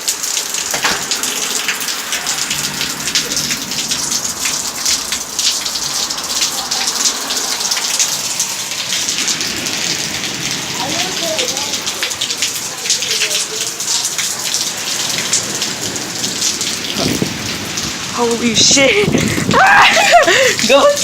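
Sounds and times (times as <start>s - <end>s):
heavy rain on hard surface: 0.0s - 21.0s.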